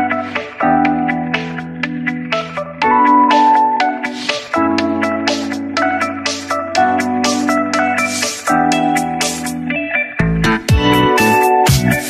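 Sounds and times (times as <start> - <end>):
music with sustained chords and beat: 0.0 - 12.0.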